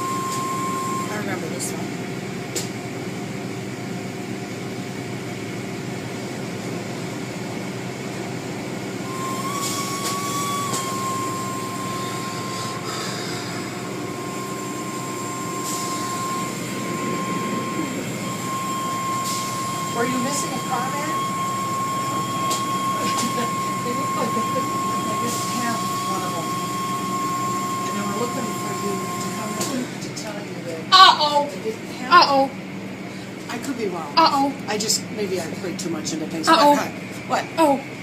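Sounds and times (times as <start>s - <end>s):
car wash machinery drone: 0.0s - 38.0s.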